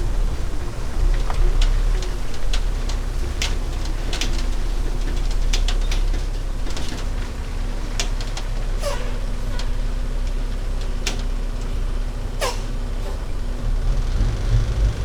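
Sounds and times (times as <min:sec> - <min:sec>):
truck engine and road drone: 0:00.0 - 0:15.0.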